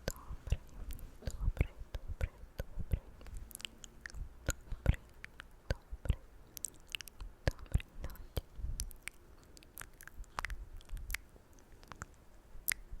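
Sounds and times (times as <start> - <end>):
wet mouth clicks and smacks: 0.0 - 13.0.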